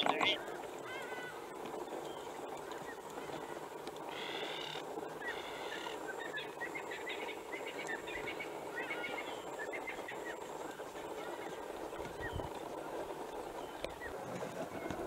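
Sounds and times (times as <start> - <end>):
buzzy bird calls: 0.0 - 12.5
birds chirping: 0.0 - 15.0
steady background hiss: 0.0 - 15.0.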